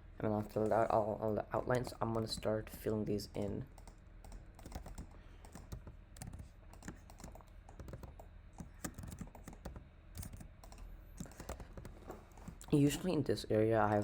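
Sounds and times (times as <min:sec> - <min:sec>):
keyboard keys tapping: 0:00.6 - 0:12.8.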